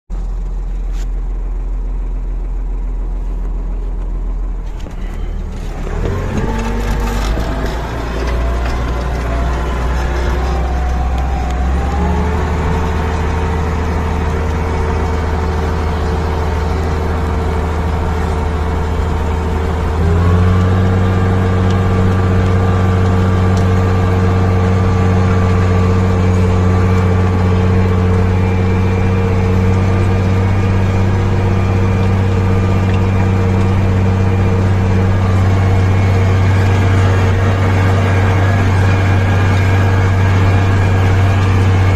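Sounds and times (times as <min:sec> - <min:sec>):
tractor engine under load: 0:00.1 - 0:41.9.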